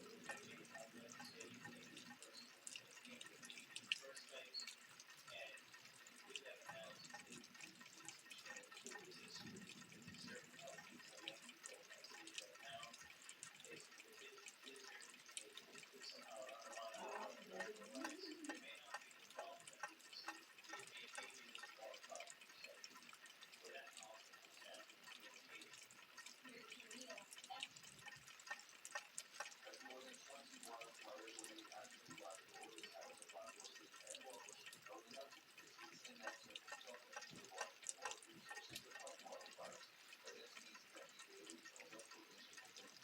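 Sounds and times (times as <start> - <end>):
rain dripping: 0.0 - 43.0.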